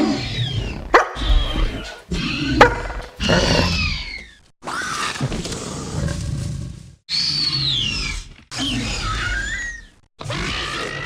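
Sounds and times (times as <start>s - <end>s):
dinosaur screeches and roars: 0.0s - 11.0s.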